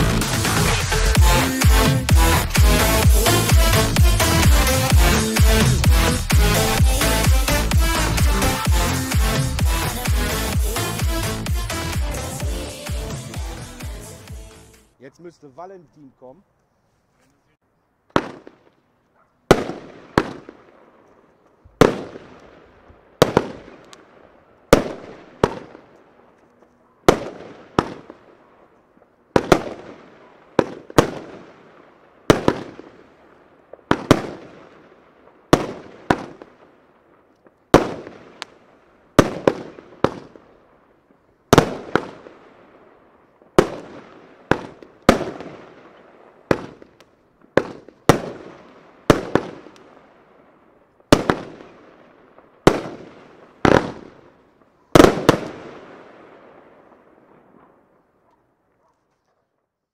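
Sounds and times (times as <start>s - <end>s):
fireworks cake firing sharp bangs: 0.0s - 14.5s, 18.1s - 18.8s, 19.4s - 26.2s, 27.0s - 50.2s, 51.0s - 58.1s.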